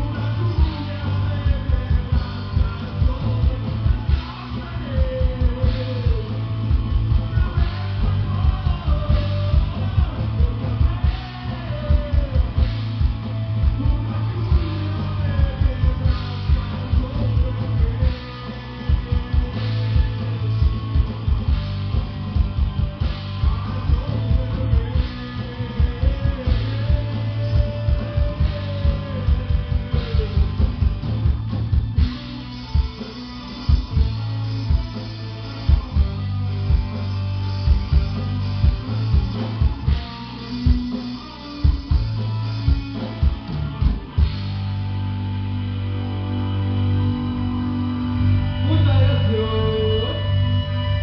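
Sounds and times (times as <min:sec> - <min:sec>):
bending lead guitar line: 0:00.0 - 0:51.0
distorted electric guitars: 0:00.0 - 0:51.0
driving kick drum: 0:00.0 - 0:51.0
low droning bass: 0:00.0 - 0:51.0.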